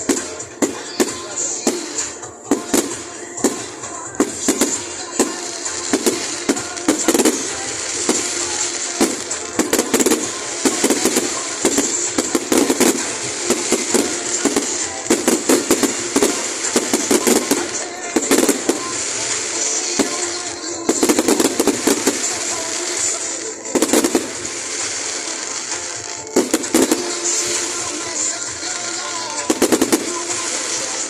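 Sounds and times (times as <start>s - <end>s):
fireworks bangs and crackles: 0.0s - 31.0s
music playing: 0.0s - 31.0s.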